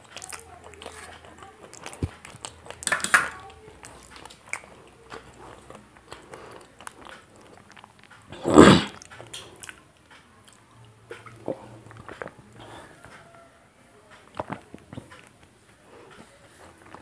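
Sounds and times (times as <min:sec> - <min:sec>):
chewing and swallowing: 0:00.0 - 0:13.5, 0:14.1 - 0:17.0.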